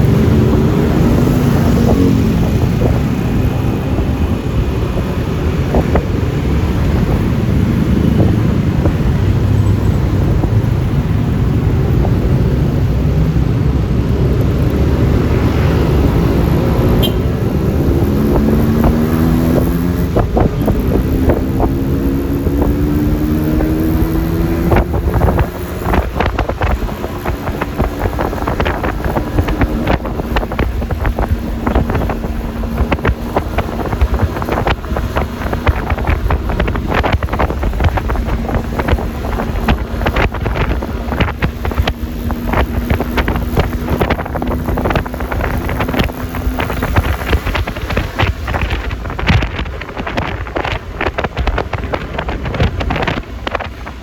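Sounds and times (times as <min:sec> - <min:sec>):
scooter engine rising in pitch: 0:00.0 - 0:50.2
road noise: 0:00.0 - 0:54.0
wind rushing on microphone: 0:00.0 - 0:54.0.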